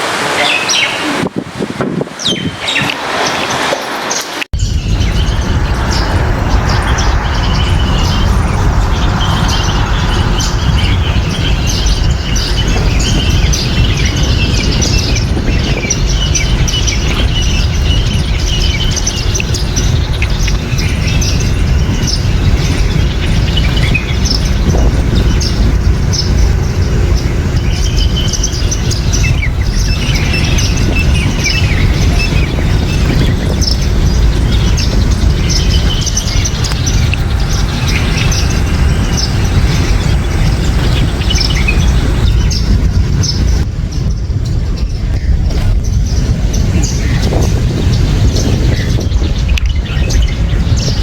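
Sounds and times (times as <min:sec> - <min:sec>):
rain rushing: 0:00.0 - 0:51.0
small birds chirping: 0:00.4 - 0:01.3, 0:02.1 - 0:51.0.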